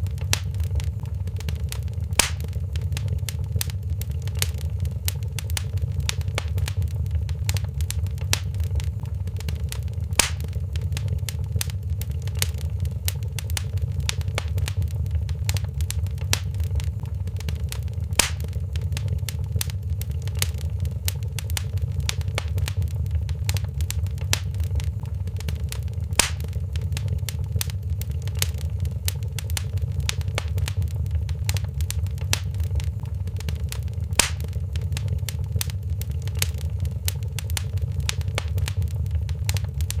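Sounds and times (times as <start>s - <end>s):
loud fire pops: 0.0s - 40.0s
low rumble of flames: 0.0s - 40.0s
small fire crackles: 0.0s - 40.0s.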